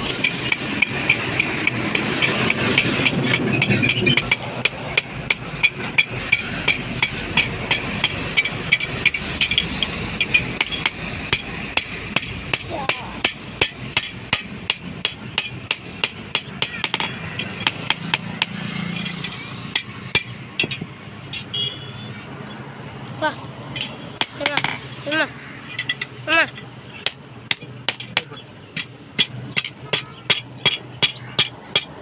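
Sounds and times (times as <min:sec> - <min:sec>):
hammer striking steel on anvil: 0:00.0 - 0:21.5, 0:25.8 - 0:32.0.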